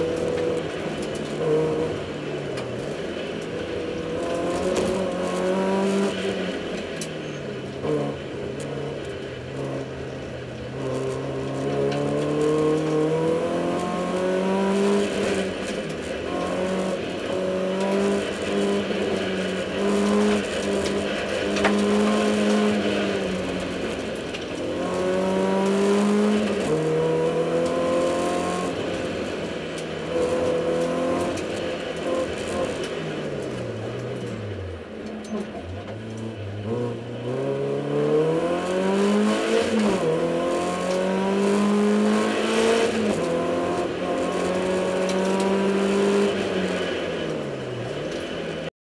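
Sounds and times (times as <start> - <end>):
car engine revving: 0.0 - 48.7.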